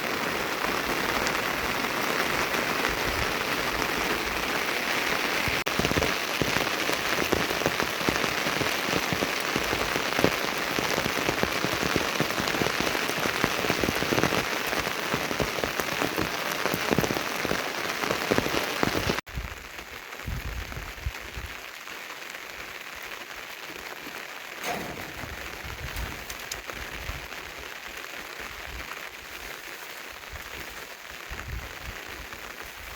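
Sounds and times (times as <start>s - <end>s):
heavy rain spattering: 0.0s - 32.9s.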